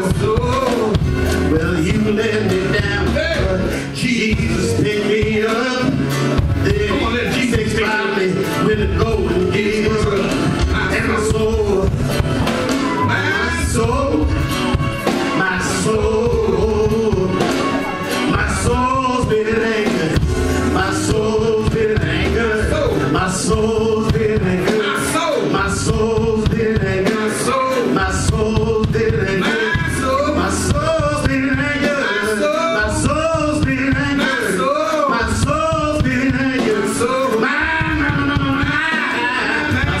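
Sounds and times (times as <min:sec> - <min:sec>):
held chords: 0:00.0 - 0:40.0
man singing gospel: 0:00.0 - 0:40.0.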